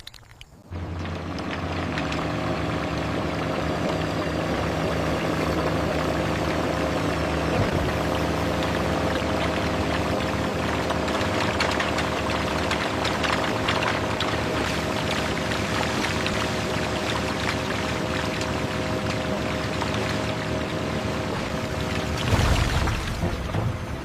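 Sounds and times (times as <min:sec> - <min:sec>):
heavy machinery engine rumbling: 0:00.0 - 0:24.0.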